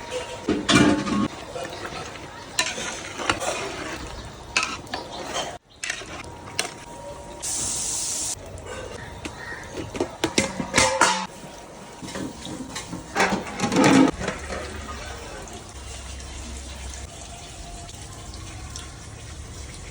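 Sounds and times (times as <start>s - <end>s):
water running and splashing: 0.0s - 19.9s.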